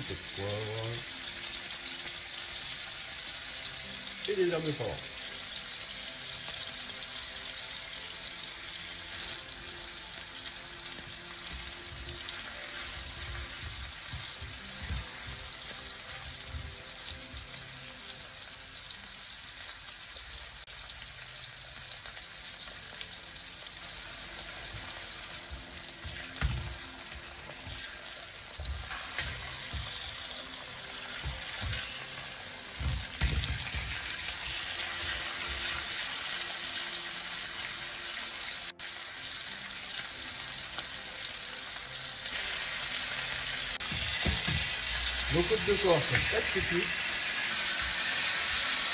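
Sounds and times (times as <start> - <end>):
meat sizzling in frying pan: 0.0 - 48.9.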